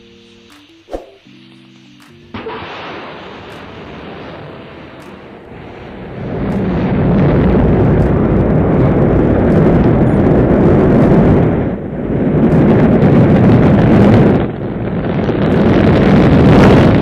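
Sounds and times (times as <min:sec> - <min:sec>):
rocket engines roaring: 0:00.0 - 0:17.0.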